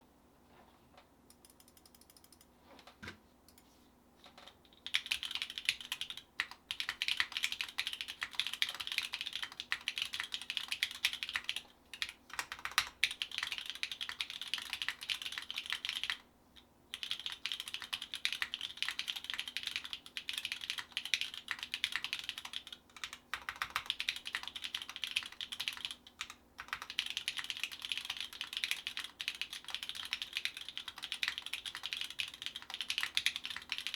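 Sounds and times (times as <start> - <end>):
mechanical keyboard typing: 1.4 - 2.5, 4.3 - 16.2, 16.9 - 33.9.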